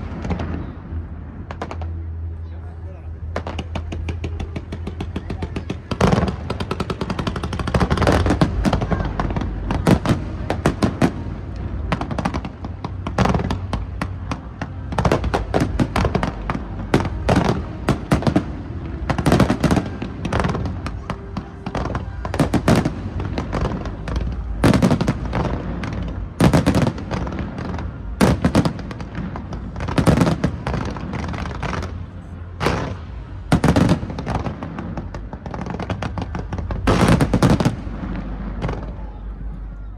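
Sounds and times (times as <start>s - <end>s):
loud fireworks booms: 0.0s - 2.3s, 3.2s - 39.9s
fireworks bangs and crackles: 0.0s - 39.9s.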